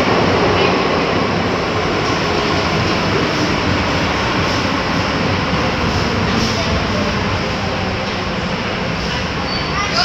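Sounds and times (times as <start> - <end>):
underground train rolling and rumbling: 0.0 - 10.0.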